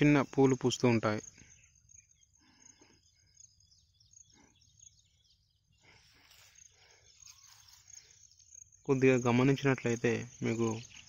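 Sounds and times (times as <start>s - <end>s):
faint chirps: 0.0s - 11.0s
insect trill: 0.0s - 11.0s.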